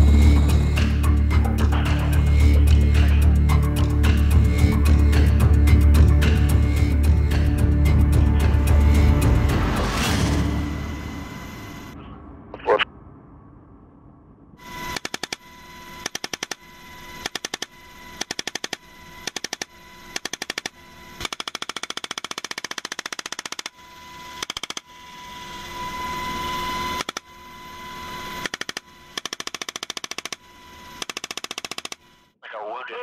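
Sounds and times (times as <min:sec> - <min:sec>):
helicopter noise: 0:00.0 - 0:12.9, 0:14.6 - 0:32.9.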